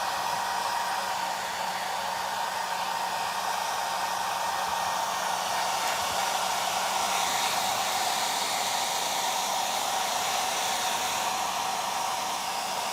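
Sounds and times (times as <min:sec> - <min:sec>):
hair dryer blowing: 0:00.0 - 0:12.9.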